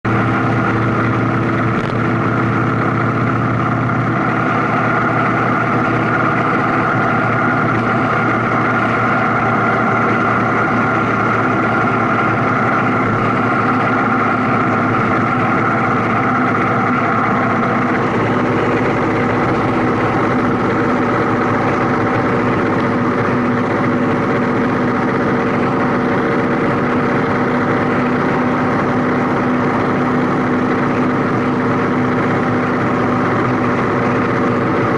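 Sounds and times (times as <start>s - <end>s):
road noise: 0.0s - 34.9s
vehicle engine drone: 0.0s - 34.9s.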